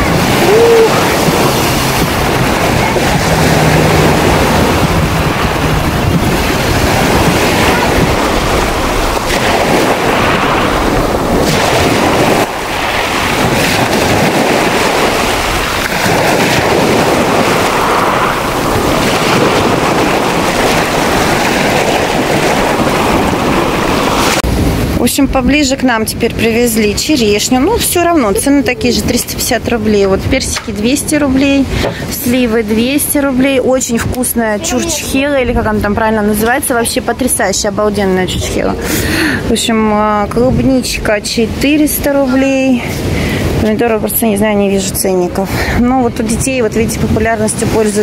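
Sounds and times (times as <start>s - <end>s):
waves breaking against concrete: 0.0s - 48.0s.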